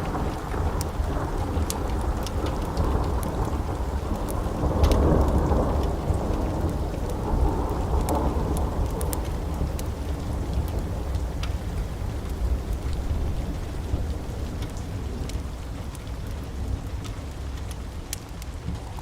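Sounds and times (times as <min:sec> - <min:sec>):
low thunder rumble: 0:00.0 - 0:17.6
steady rain: 0:00.0 - 0:19.0
wood fire crackling: 0:00.0 - 0:19.0.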